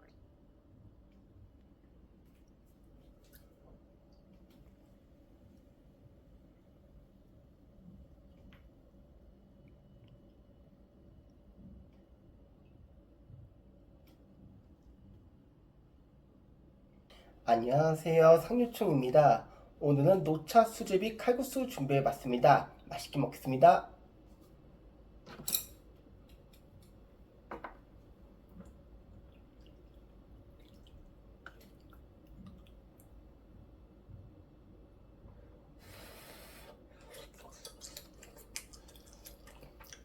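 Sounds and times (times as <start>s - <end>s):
soft wet eating sounds: 0.0s - 12.8s, 18.7s - 40.0s
faint low hum: 0.0s - 40.0s.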